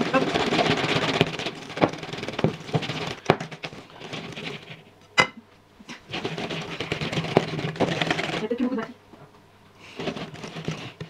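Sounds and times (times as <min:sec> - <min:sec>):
utensil mashing in a bowl: 0:00.0 - 0:04.9, 0:05.9 - 0:08.8, 0:09.8 - 0:11.0.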